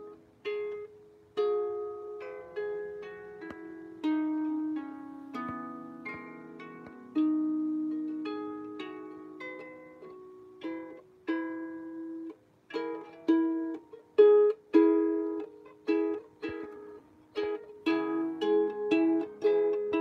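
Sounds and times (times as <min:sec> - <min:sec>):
harp notes plucked: 0:00.0 - 0:20.0.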